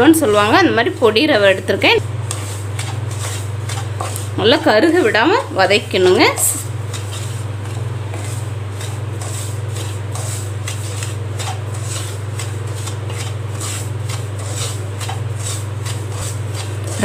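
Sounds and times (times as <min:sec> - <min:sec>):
steady low hum: 0:00.0 - 0:17.0
wooden spatula scraping a pan: 0:00.0 - 0:17.0.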